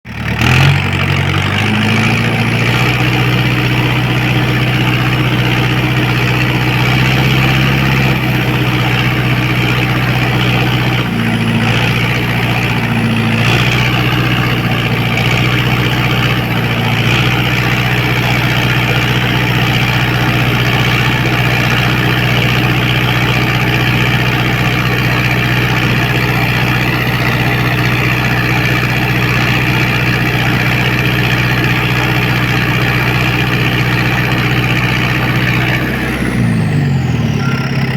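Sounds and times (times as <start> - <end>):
tractor diesel engine idling: 0.0 - 37.9.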